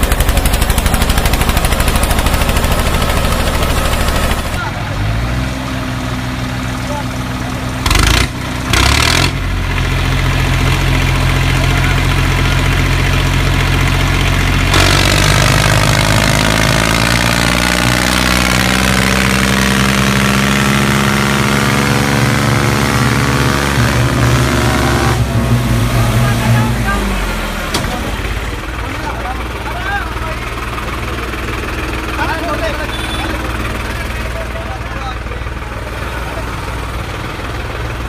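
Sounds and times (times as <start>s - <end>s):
engine bursts: 0.0s - 38.0s
tractor engine running: 0.0s - 38.0s.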